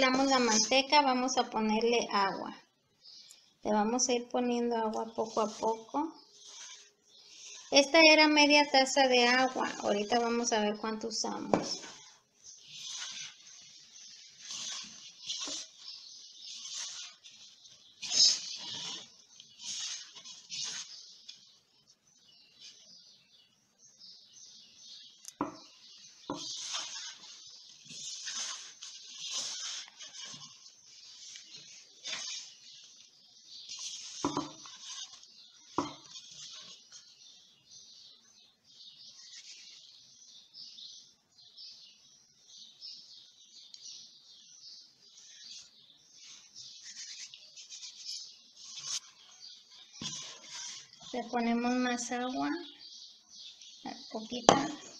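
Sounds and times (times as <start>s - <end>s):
dough rustling and squishing: 3.6s - 23.8s, 24.5s - 41.1s, 44.8s - 52.4s.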